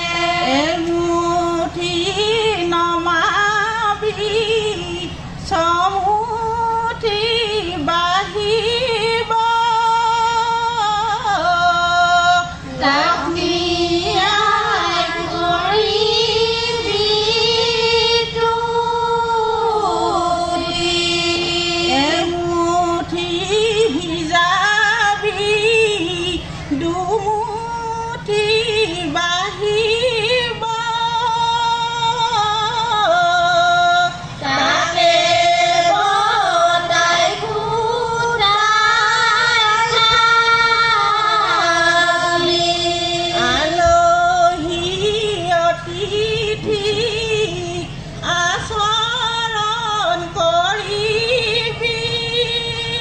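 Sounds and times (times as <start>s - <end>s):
women singing in unison: 0.0s - 53.0s.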